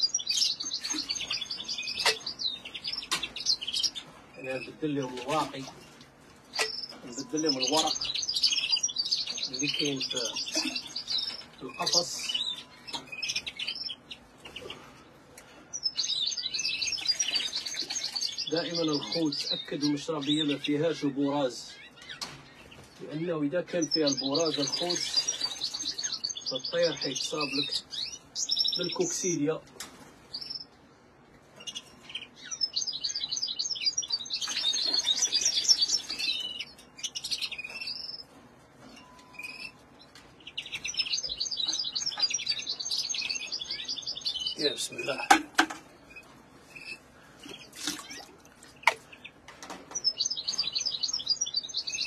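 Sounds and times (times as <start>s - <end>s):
birds chirping and trilling: 0.0s - 52.0s.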